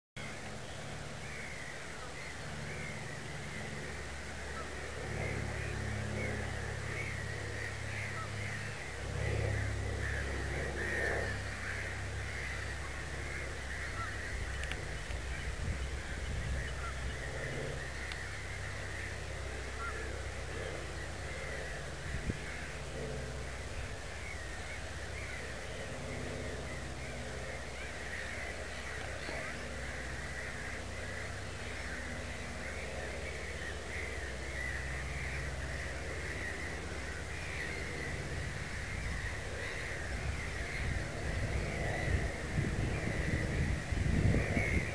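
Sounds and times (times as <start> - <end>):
bird calls: 0.2 - 44.9
steady low rumble: 0.2 - 44.9.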